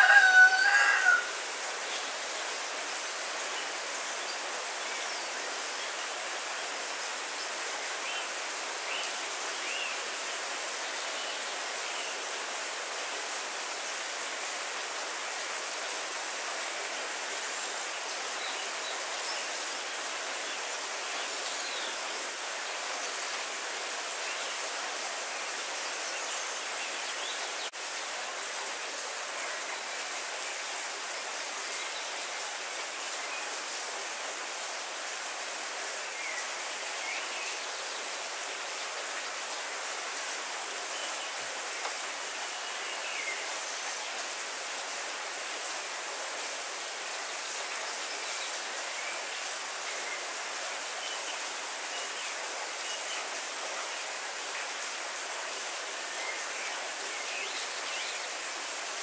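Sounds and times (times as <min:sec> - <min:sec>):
heavy rain on foliage: 0:00.0 - 0:59.0.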